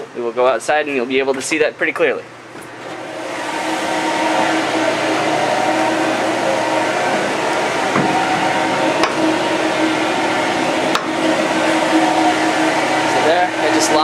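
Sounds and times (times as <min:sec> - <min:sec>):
ship machinery and ventilation drone: 0:00.0 - 0:14.0.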